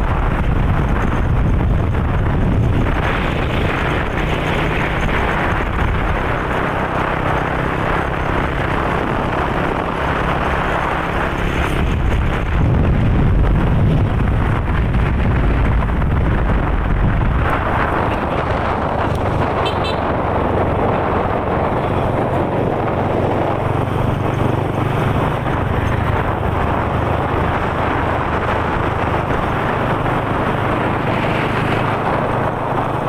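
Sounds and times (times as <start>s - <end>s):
motorcycle engine rumble: 0.0s - 33.0s
wind noise on microphone: 0.0s - 33.0s.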